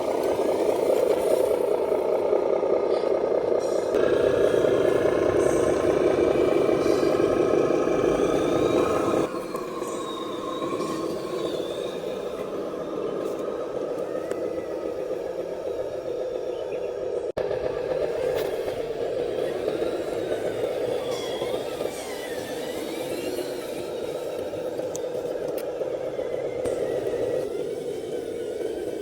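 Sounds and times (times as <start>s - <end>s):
electric motor and gears whining: 0.0s - 29.0s.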